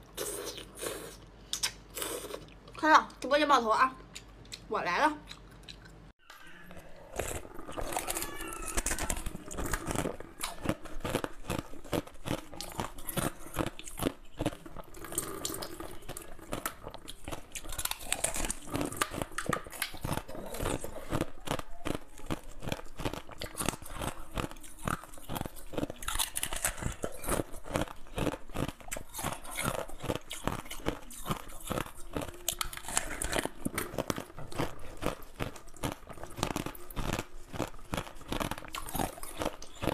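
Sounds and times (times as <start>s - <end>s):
crunchy food being chewed: 4.0s - 39.9s.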